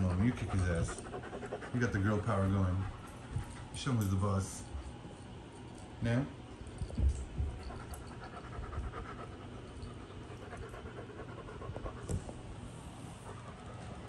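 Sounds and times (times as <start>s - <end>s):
dog panting: 0.0s - 5.8s, 6.6s - 14.0s.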